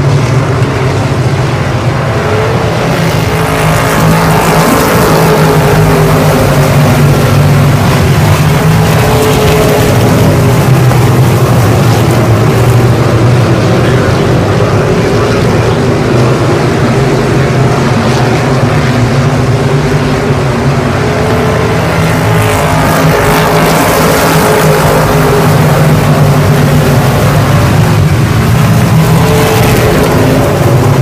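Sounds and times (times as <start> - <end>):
race car engines droning: 0.0 - 31.0.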